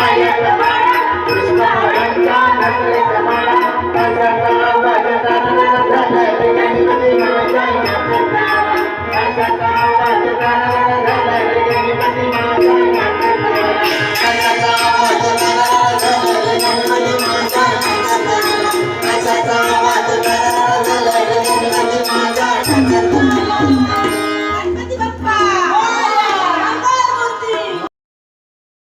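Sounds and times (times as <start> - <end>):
devotional song instrumental: 0.0 - 27.9.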